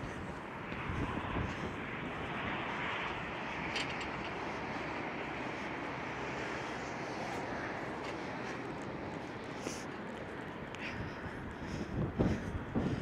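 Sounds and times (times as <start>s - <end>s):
strong wind roaring: 0.0s - 13.0s.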